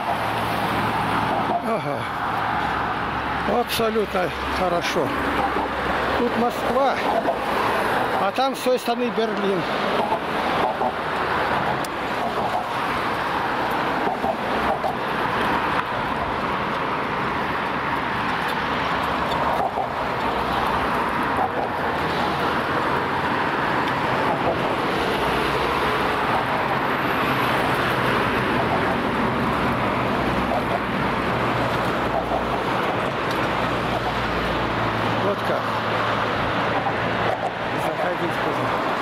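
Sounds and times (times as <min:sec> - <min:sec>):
road traffic rushing: 0:00.0 - 0:39.0.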